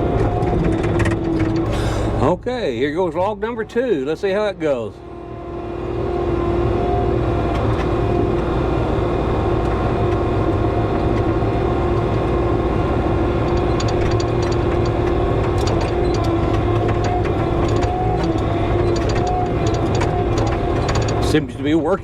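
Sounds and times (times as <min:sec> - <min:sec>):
engine running under load: 0:00.0 - 0:22.0.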